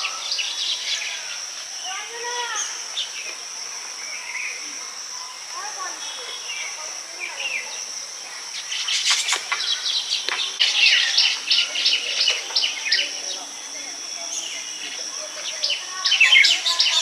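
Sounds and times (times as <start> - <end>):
birds chattering: 0.0 - 17.0
high insect drone: 0.0 - 17.0.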